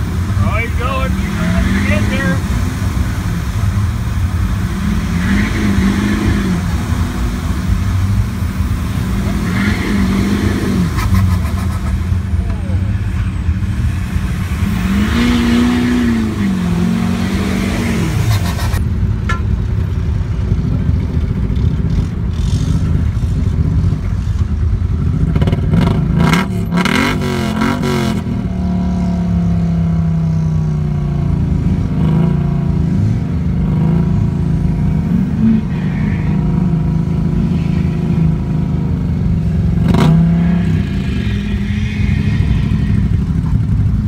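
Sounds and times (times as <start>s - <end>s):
truck engine revving: 0.0s - 44.0s
vehicle engines running: 0.0s - 44.0s.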